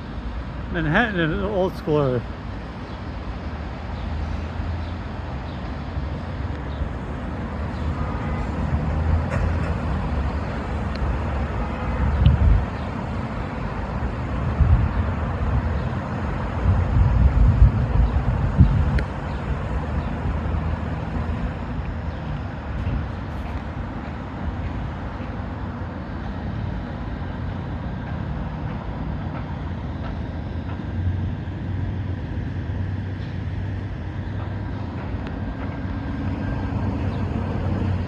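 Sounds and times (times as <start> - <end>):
city traffic rumble: 0.0 - 38.0.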